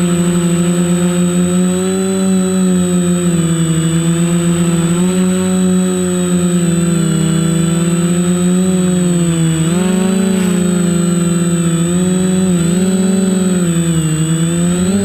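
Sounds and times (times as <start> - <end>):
drone propellers buzzing: 0.0 - 15.0
high-pitched whine: 0.0 - 15.0.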